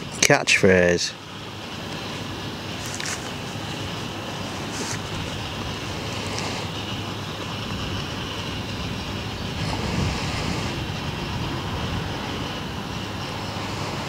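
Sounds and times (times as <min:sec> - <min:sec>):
wind buffeting microphone: 0:01.5 - 0:14.0.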